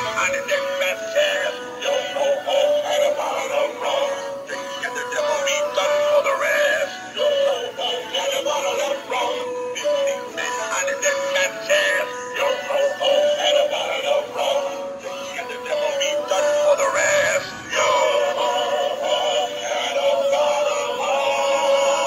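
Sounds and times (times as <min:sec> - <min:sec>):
toy speaker playing song: 0:00.0 - 0:22.0.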